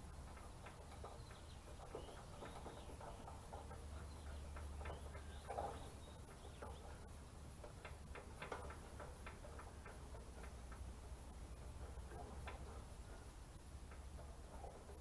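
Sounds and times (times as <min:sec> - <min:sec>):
low steady hum: 0:00.0 - 0:15.0
light clicks and taps of small parts: 0:00.2 - 0:15.0.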